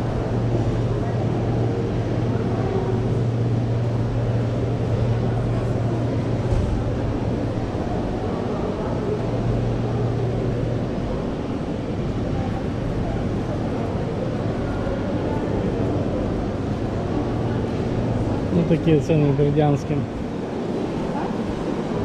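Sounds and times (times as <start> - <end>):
faint murmur of voices: 0.0 - 22.0.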